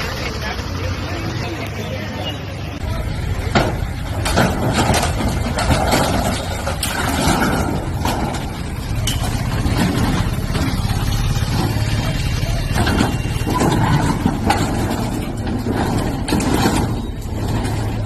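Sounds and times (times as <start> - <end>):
bulldozer engine running: 0.0 - 18.0.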